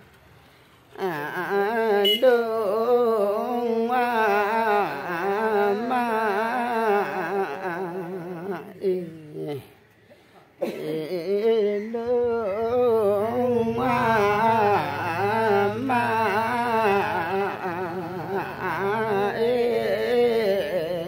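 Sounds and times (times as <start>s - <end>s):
person singing ornamented melody: 1.0s - 9.8s, 10.6s - 21.0s.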